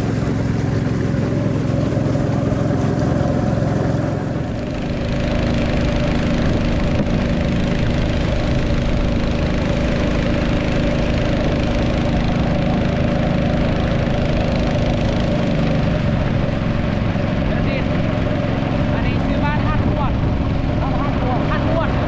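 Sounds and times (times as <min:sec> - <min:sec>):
motorboat engine running: 0:00.0 - 0:22.0.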